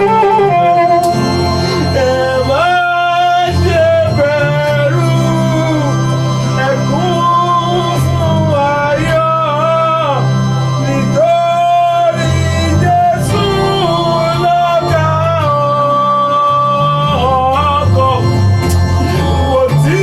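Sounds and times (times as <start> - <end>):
gospel melodic lead line: 0.0 - 20.0
steady bass: 0.0 - 20.0.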